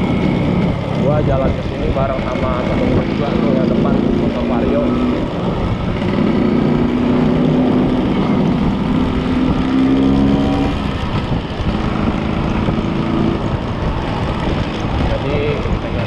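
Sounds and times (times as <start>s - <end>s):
scooter two-stroke engine: 0.0s - 16.0s.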